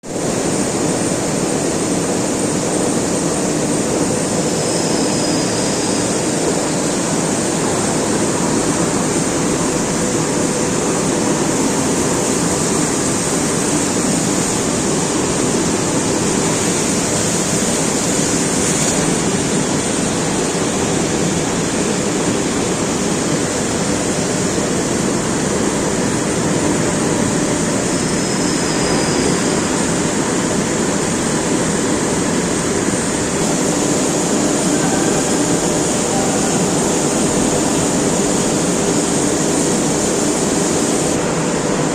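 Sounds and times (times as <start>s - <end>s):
loud machinery running: 0.0s - 41.9s.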